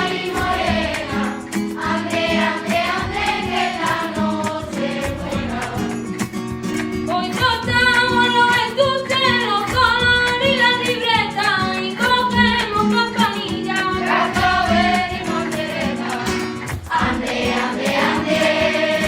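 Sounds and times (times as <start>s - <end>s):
guitar accompaniment: 0.0s - 19.0s
person singing flamenco style: 0.0s - 19.0s.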